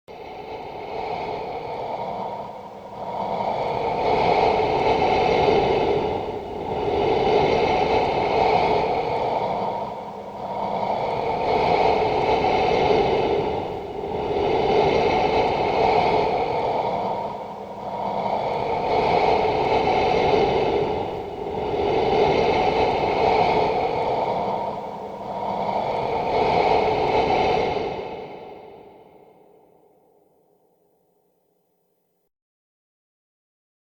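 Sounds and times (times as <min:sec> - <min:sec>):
breathy hissing ghost breaths: 0:00.2 - 0:30.0.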